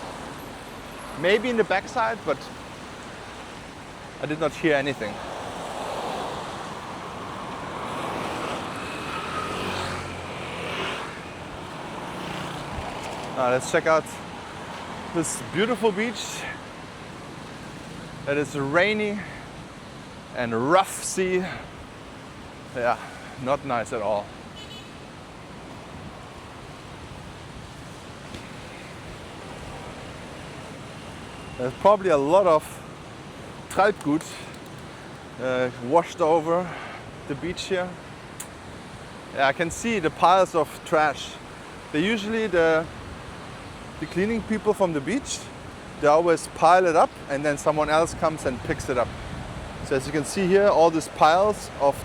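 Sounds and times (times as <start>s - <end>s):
sea surf washing onto beach: 0.0s - 52.0s
wind: 0.0s - 52.0s.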